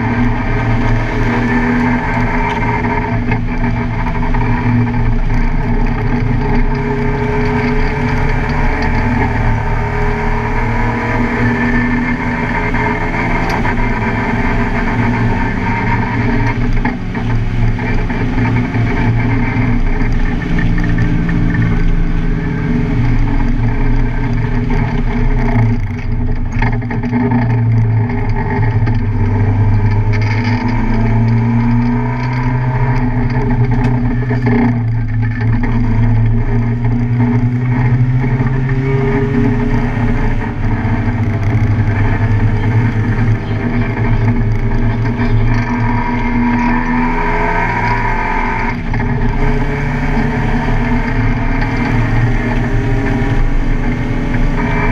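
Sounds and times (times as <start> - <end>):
race car engine shifting gears: 0.0 - 54.9.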